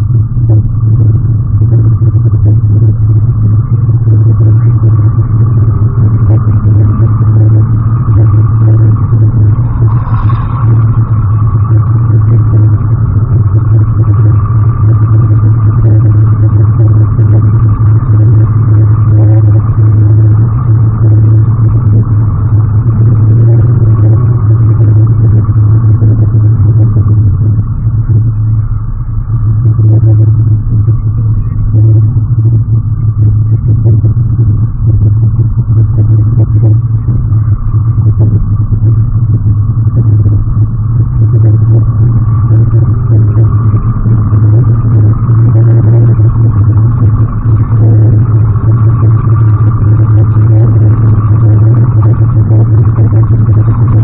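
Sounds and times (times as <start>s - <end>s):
car engine road and wind drone: 0.0s - 54.0s.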